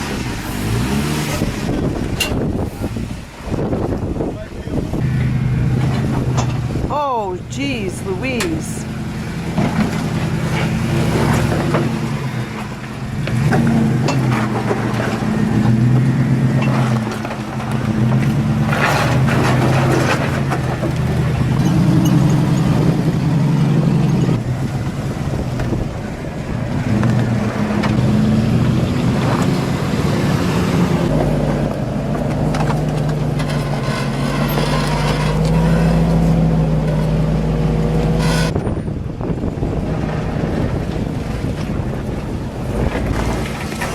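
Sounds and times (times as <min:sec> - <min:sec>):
engine running at low revs: 0:00.0 - 0:43.9.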